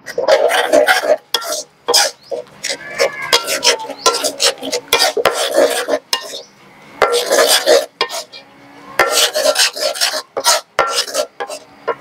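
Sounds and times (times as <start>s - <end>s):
metal spoon scraping a pot: 0.0s - 8.4s, 9.0s - 12.0s
paste frying: 0.0s - 8.4s, 9.0s - 12.0s.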